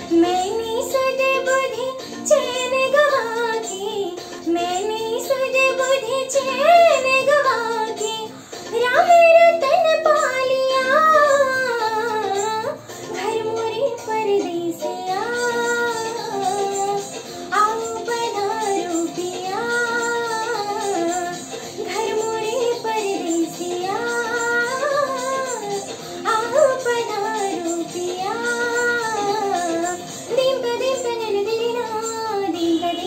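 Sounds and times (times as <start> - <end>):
girl singing in high voice: 0.0 - 33.0.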